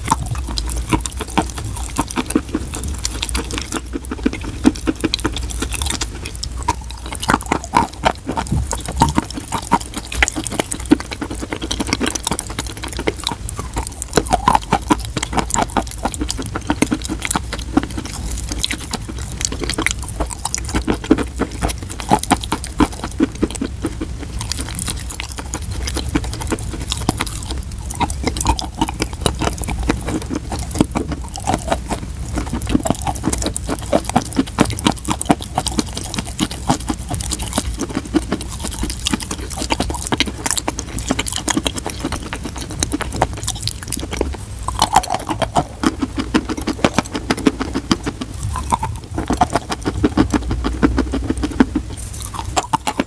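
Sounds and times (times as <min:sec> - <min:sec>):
chalk crunching between teeth: 0:00.0 - 0:53.0.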